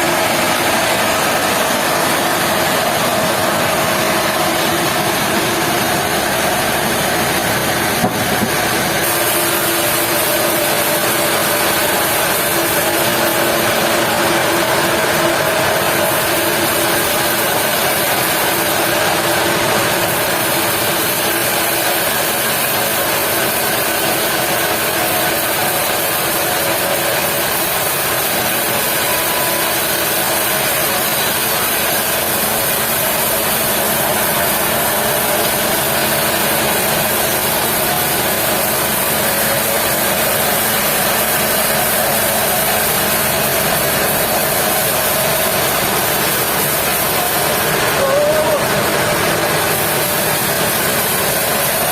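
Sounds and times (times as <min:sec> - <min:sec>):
sawmill machinery running: 0:00.0 - 0:51.9.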